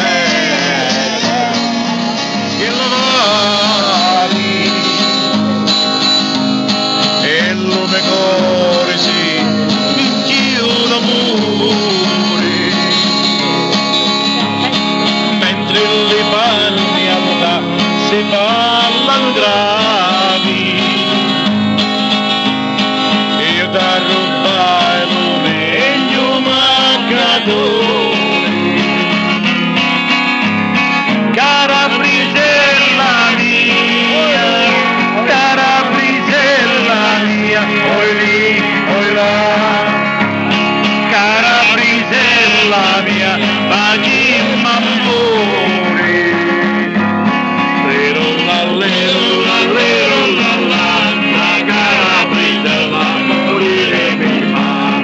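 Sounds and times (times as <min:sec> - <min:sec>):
acoustic guitar strumming: 0:00.0 - 0:55.0
bending guitar melody: 0:00.0 - 0:55.0.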